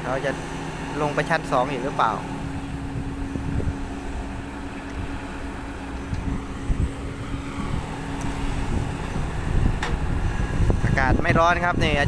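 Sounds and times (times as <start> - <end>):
heavy machinery engine rumble: 0.0 - 12.0
steady hum: 0.0 - 12.0.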